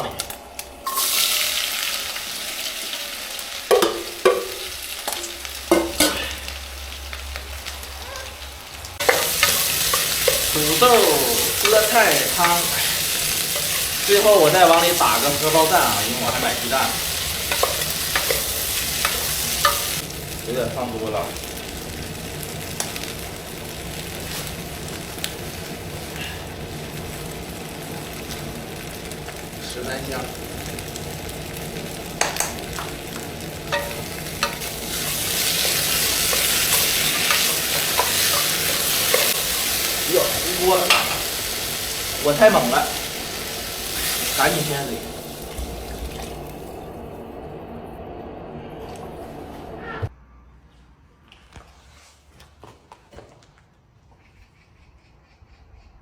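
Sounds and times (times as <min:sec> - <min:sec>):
potatoes sizzling in oil: 0:00.1 - 0:47.2.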